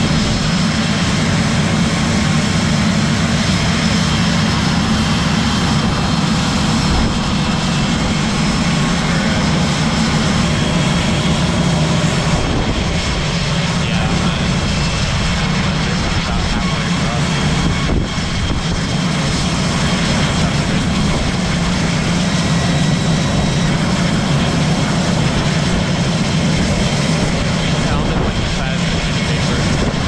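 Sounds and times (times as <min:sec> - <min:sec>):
truck machinery drone: 0:00.0 - 0:30.0.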